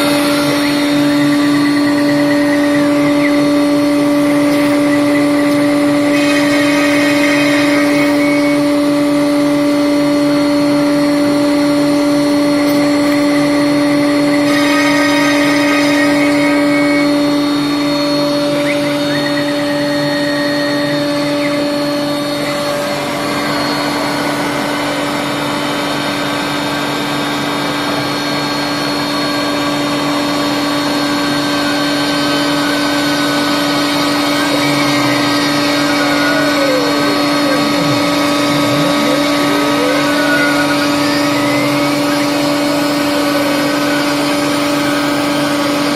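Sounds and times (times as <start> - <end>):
high machine whines: 0.0 - 45.9
machine motor humming: 0.0 - 45.9.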